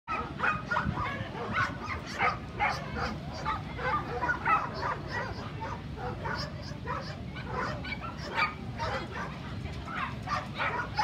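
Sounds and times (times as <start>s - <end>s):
crowd chatter: 0.1s - 11.0s
dogs barking: 0.1s - 11.0s.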